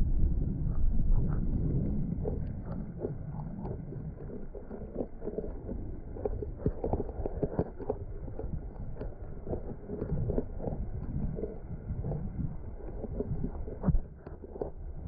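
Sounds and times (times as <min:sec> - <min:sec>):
wind noise rumble: 0:00.0 - 0:15.0.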